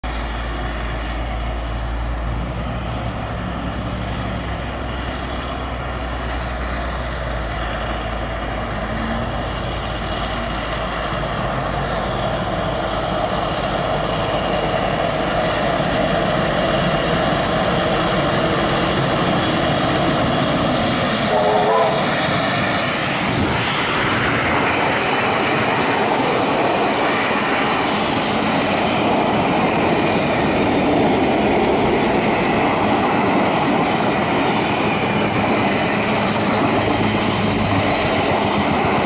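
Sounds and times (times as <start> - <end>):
distant train approaching: 0.0 - 39.0.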